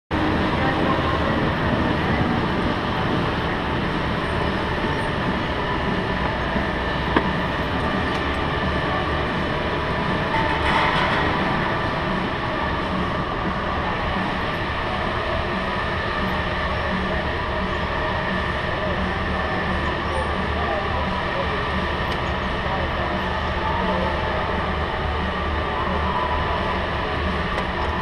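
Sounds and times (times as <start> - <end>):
go-kart rumble and rattle: 0.1 - 28.0.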